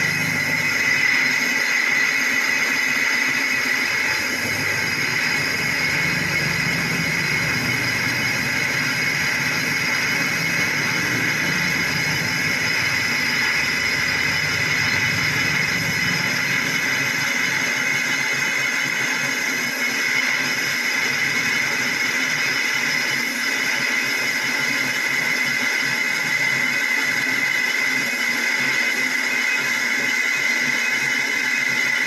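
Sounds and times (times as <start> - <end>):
lathe machining with high whine: 0.0 - 32.0.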